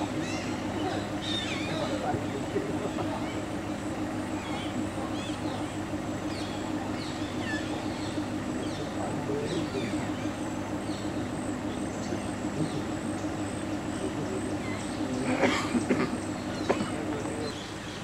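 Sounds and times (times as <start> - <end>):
forest birds chirping: 0.0 - 18.0
low hum: 0.0 - 18.0.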